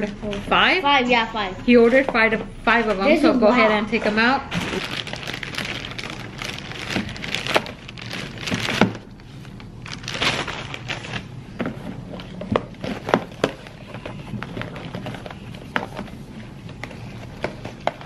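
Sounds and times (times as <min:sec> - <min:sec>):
plastic bag rustling: 0:01.7 - 0:18.0.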